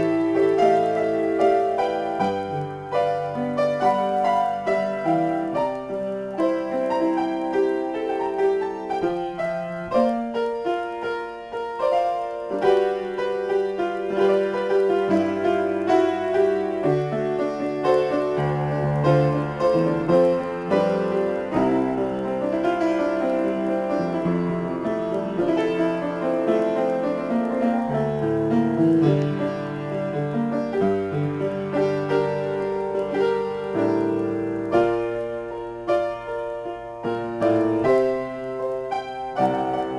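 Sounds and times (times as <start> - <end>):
solo piano improvisation: 0.0 - 39.9.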